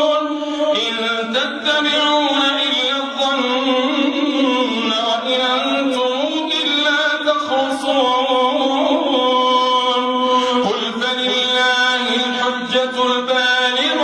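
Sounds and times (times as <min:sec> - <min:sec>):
man chanting into a microphone: 0:00.0 - 0:14.0.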